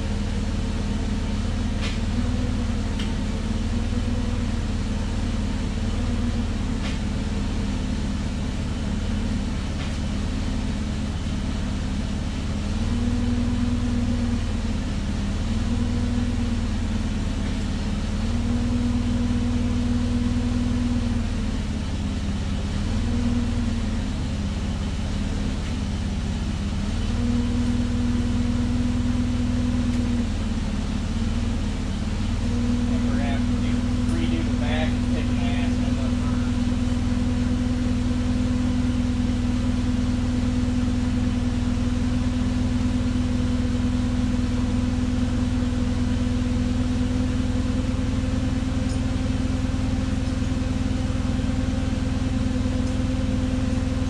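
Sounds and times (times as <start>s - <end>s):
forklift engine idling and revving: 0.0s - 54.0s.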